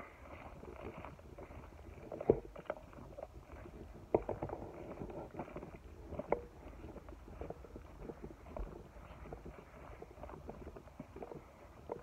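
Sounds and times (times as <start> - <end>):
footsteps in dry grass: 0.0 - 12.0.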